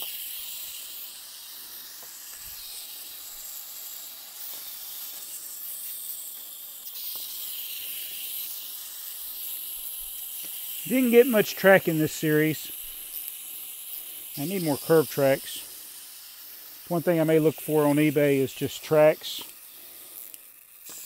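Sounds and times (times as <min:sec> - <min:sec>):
clockwork motor whirring: 0:00.0 - 0:21.0.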